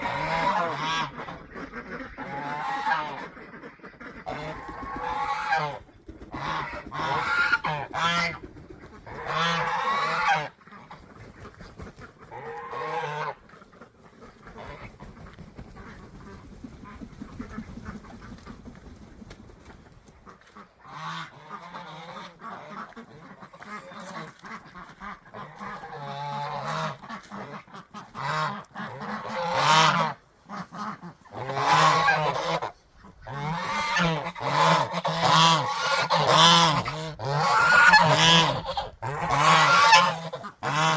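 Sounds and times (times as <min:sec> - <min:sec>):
geese honking: 0:00.0 - 0:40.9.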